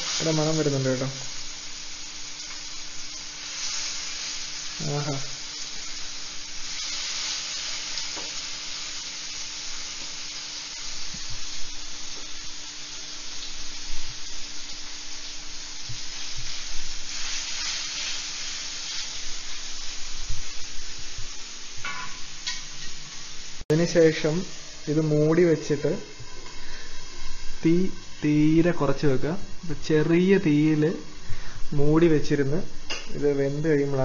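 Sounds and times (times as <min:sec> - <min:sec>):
fish sizzling in oil: 0:00.0 - 0:33.9.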